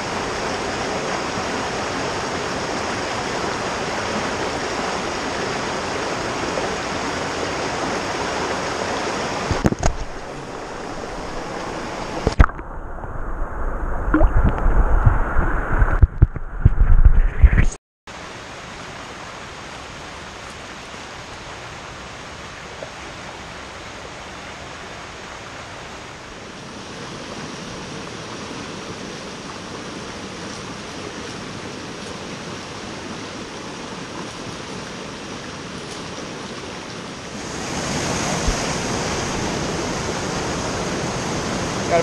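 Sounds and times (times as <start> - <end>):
creek running over rocks: 0.0 - 13.4, 18.1 - 42.0.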